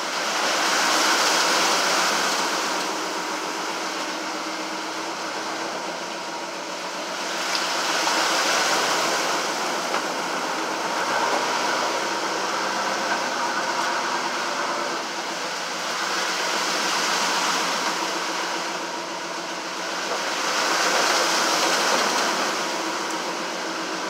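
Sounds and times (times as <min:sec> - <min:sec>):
truck engine running: 0:00.0 - 0:24.0
tyres splashing through water: 0:00.0 - 0:24.0.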